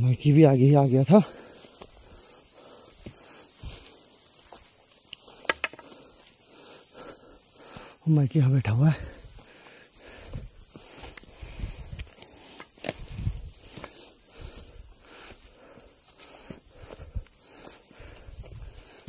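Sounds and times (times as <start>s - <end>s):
insect chorus: 0.0s - 19.0s
footsteps on grass and dirt: 1.2s - 6.5s, 9.0s - 19.0s.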